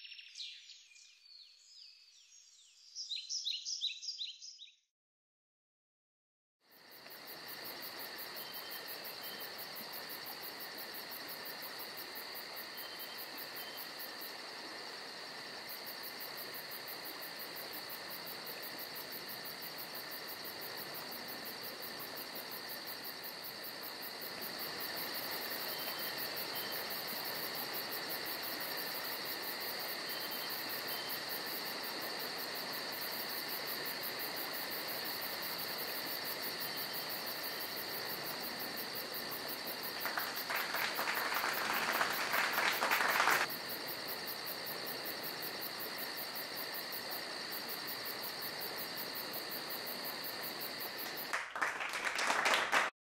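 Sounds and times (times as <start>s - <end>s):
insect chorus trilling: 6.7s - 51.4s.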